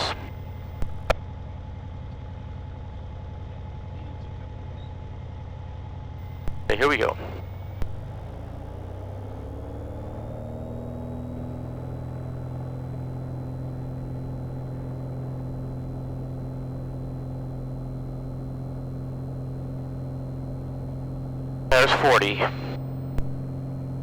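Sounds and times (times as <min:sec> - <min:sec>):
light airplane engine at takeoff: 0:00.0 - 0:24.0.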